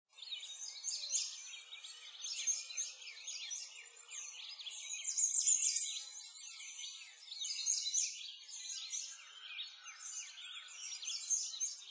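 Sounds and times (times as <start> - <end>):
songbirds chirping: 0.1 - 11.9.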